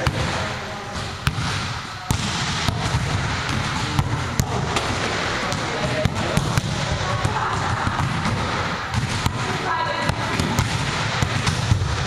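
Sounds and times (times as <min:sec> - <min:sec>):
gym hall noise: 0:00.0 - 0:12.0.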